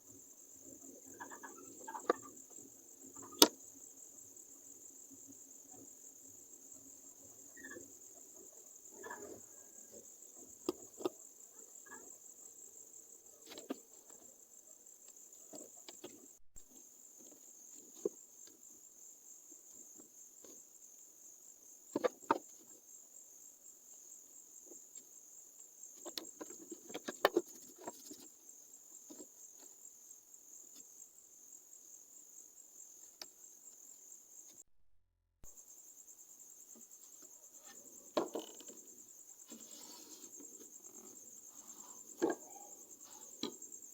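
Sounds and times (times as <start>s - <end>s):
cricket trilling: 0.0s - 34.6s, 35.5s - 43.9s.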